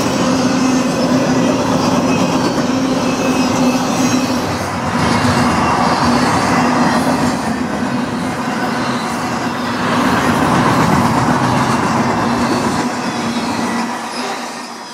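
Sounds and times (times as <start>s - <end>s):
freight train wheels rumbling: 0.0s - 14.9s.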